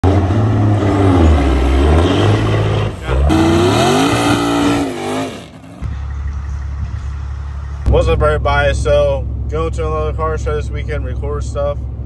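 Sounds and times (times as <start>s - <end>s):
truck diesel engine driving by: 0.0s - 10.4s.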